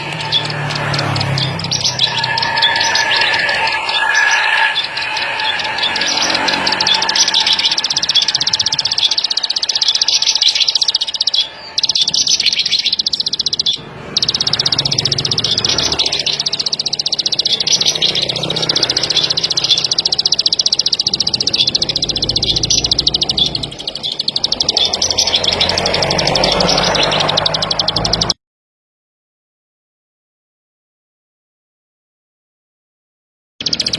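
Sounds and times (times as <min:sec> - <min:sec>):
bird buzzing trill: 0:00.0 - 0:28.3.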